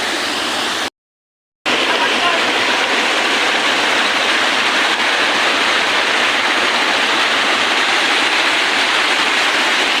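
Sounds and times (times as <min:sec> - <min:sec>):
waterfall rushing: 0:00.0 - 0:00.9, 0:01.7 - 0:10.0.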